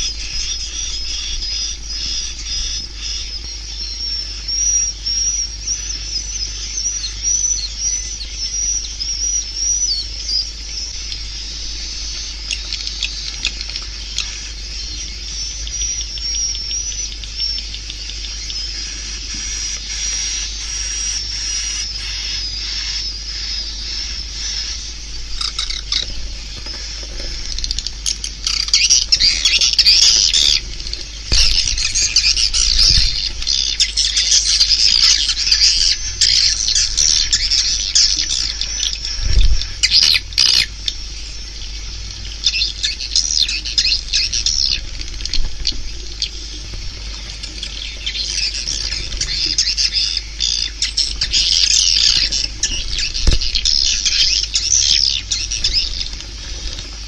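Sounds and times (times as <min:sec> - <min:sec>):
steady low hum: 0:00.0 - 0:57.0
swiftlets twittering: 0:00.0 - 0:57.0.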